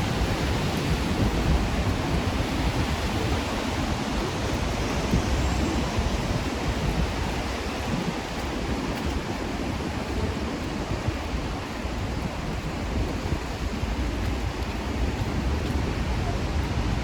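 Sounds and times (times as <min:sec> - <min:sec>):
rain falling on street: 0:00.0 - 0:17.0.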